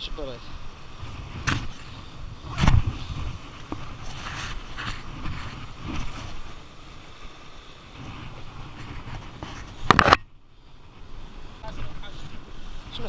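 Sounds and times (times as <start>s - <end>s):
surf breaking against rocks: 0.0s - 13.0s
wind buffeting microphone: 0.0s - 13.0s.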